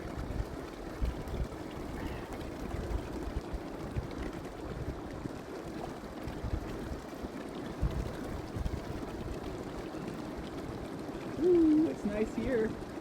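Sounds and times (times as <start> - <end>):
water running and trickling: 0.0 - 13.0
wind rumbling on microphone: 0.0 - 13.0.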